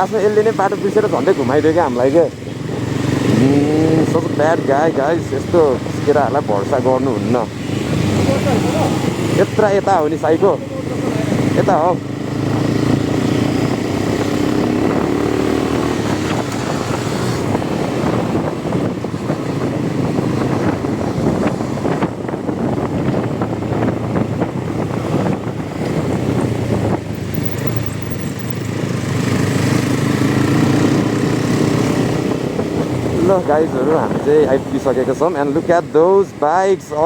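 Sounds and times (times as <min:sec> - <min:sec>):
motorcycle engine running: 0:00.0 - 0:34.7.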